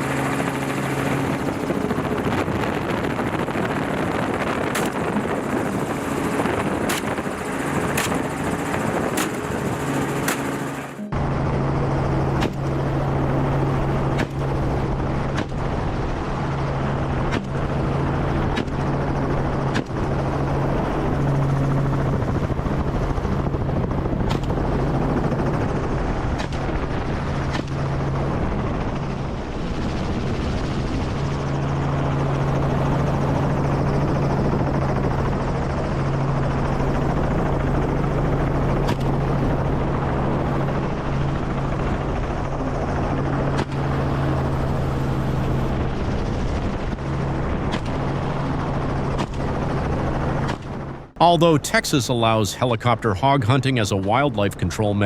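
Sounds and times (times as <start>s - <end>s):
helicopter in flight: 0.0s - 55.0s.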